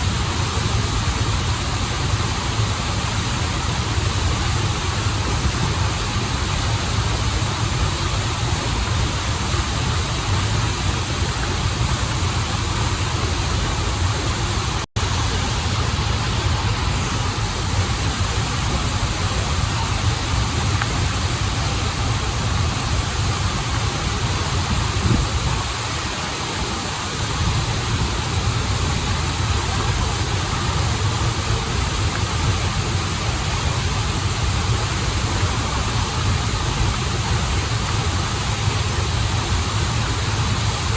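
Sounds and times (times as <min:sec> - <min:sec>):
waterfall and river rushing: 0:00.0 - 0:40.9.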